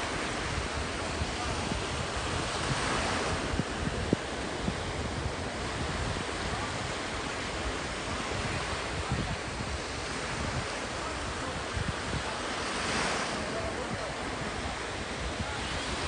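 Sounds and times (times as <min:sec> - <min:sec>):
sea waves washing onto shore: 0:00.0 - 0:16.0
wind buffeting microphone: 0:00.0 - 0:16.0.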